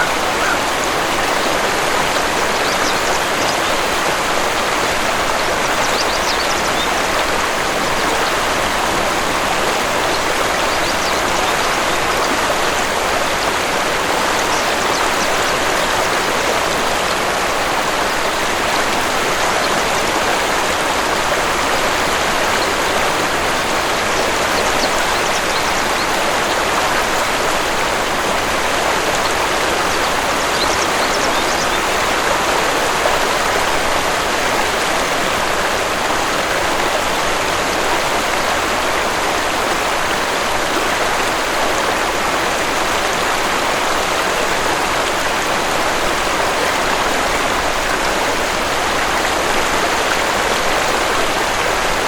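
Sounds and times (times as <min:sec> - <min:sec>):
waterfall rushing and splashing: 0:00.0 - 0:52.0.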